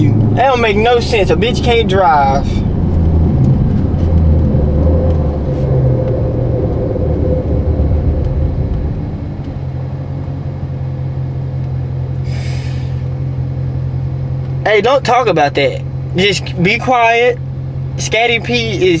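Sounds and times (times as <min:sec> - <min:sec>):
car road and engine rumble: 0:00.0 - 0:19.0
faint steady whine: 0:00.0 - 0:19.0
low engine hum: 0:00.0 - 0:19.0.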